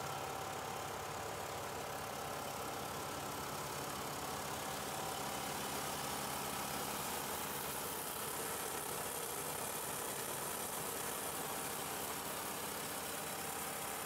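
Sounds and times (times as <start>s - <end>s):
diesel generator engine running: 0.0s - 14.0s.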